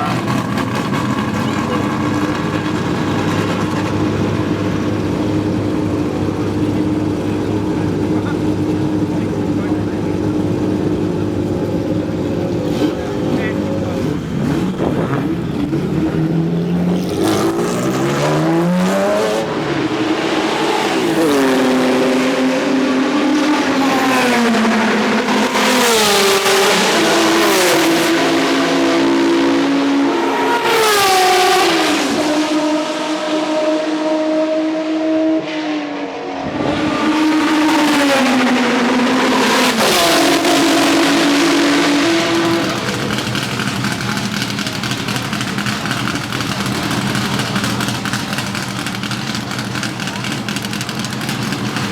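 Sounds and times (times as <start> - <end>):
racing engine at high revs: 0.0 - 51.9.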